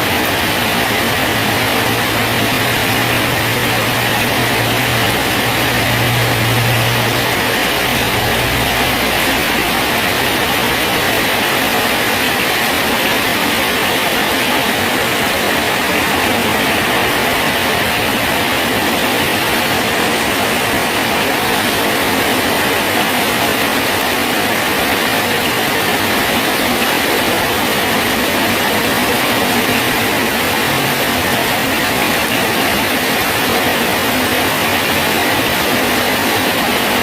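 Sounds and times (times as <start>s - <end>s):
rain falling on a bridge: 0.0s - 37.0s.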